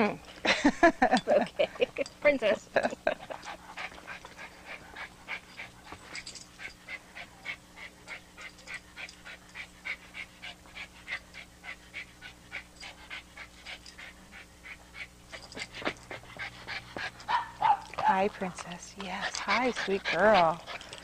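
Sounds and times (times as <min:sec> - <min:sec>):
small dog panting: 0:03.1 - 0:21.0.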